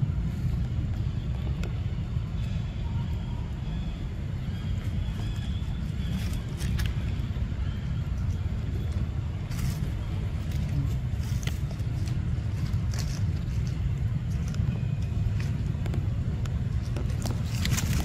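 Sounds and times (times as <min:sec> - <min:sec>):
steady low rumble: 0:00.0 - 0:18.0
dry leaves crackling and rustling: 0:02.2 - 0:18.0.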